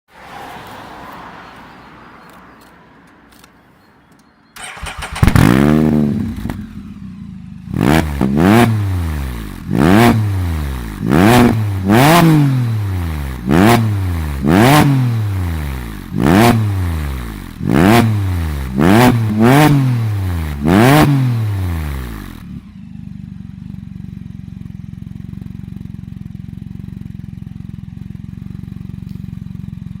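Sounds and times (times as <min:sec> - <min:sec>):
engine revving and idling: 0:04.6 - 0:30.0.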